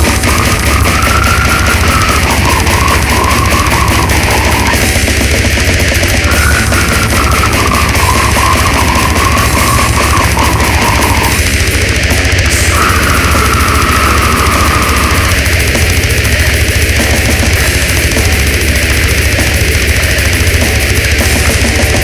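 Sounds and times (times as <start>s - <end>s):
death metal music: 0.0s - 22.0s.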